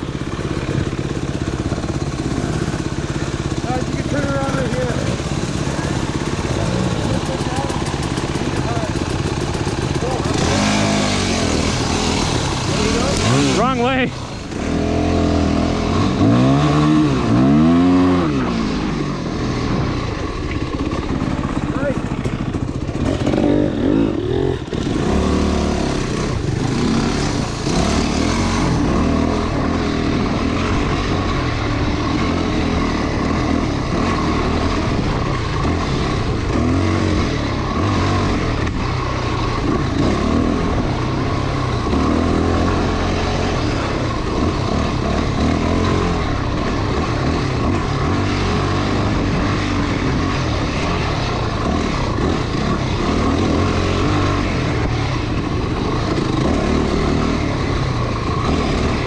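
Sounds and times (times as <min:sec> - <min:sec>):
motorcycle engine: 0:00.0 - 0:59.0
steady rushing noise: 0:00.0 - 0:59.0.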